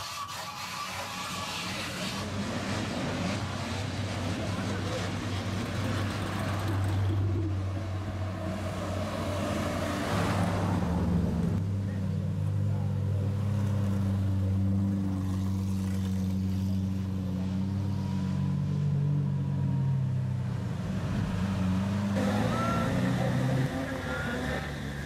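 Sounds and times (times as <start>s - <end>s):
car passing with tyre noise: 0.3s - 25.0s.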